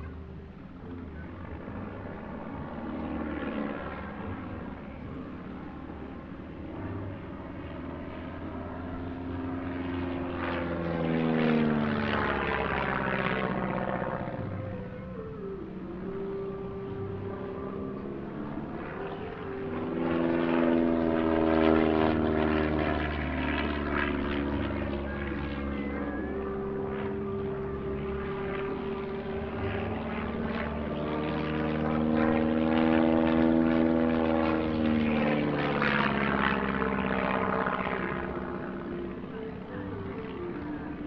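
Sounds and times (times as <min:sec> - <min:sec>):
biplane propeller engine: 0:00.0 - 0:41.0.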